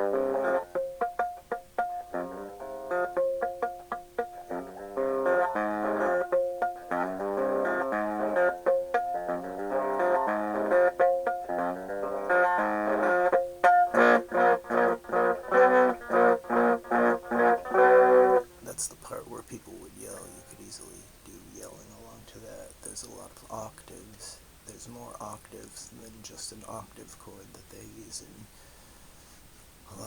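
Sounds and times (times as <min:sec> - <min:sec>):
electric guitar riff with octave chords: 0:00.0 - 0:29.8.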